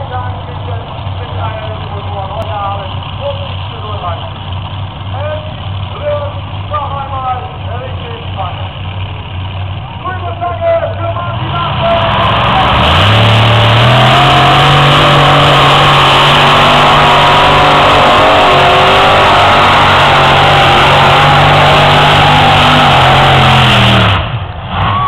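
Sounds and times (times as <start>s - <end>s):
tractor engine running flat out: 0.0s - 25.0s.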